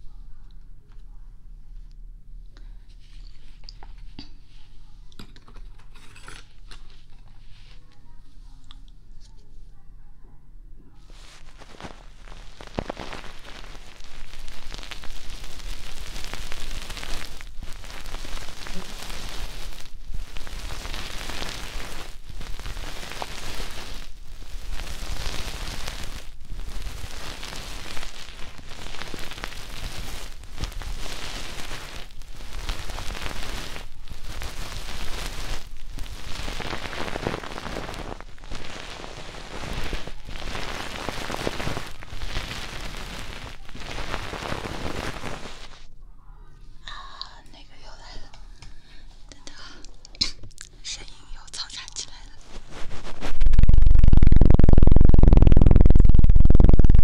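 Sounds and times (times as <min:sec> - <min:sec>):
crackly rustling on microphone: 0:02.9 - 0:09.9, 0:10.9 - 0:46.0, 0:46.8 - 0:57.0.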